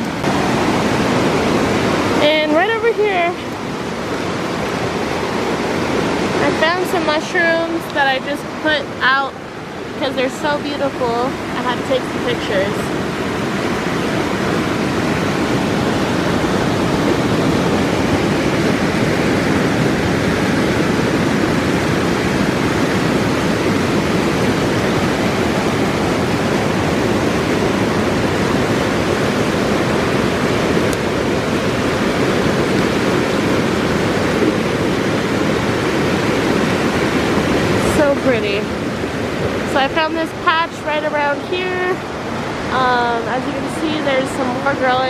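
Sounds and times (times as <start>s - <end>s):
steady rushing noise: 0.0s - 45.0s.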